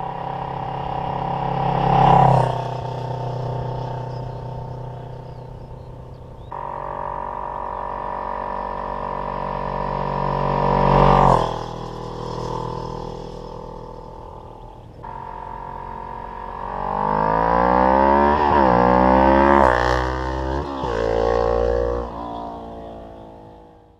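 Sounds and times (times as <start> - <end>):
motorcycle accelerating through gears: 0.0 - 23.9.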